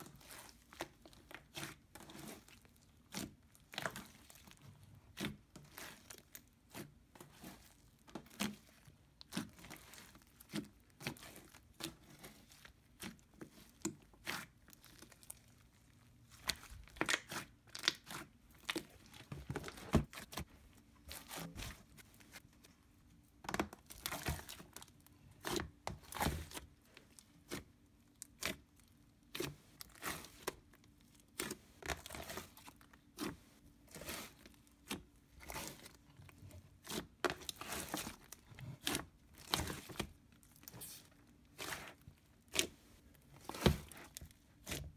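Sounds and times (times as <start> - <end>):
hands squishing slime: 0.0 - 44.9.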